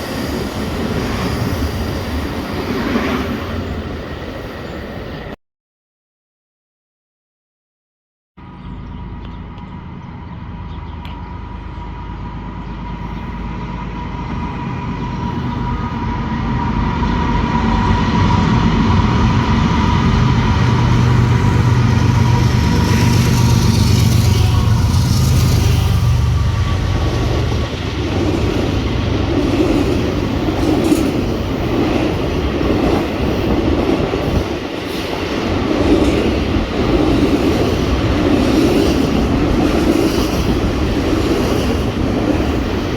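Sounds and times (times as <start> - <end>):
diesel locomotive engine rumble: 8.4 - 42.9.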